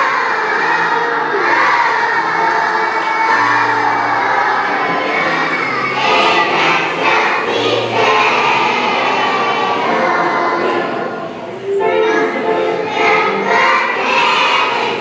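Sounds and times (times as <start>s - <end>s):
children singing together: 0.0s - 15.0s
held low accompaniment notes: 0.0s - 15.0s.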